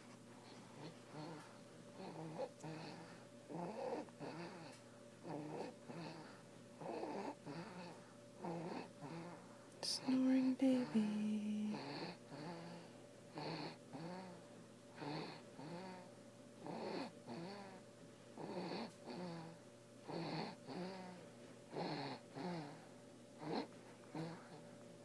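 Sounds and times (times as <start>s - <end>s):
baby snoring: 0.4s - 9.4s, 11.6s - 17.8s, 18.4s - 24.6s.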